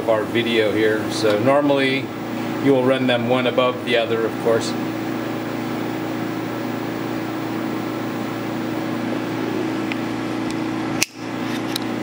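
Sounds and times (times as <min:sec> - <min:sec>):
fans and air handling hum: 0:00.0 - 0:12.0.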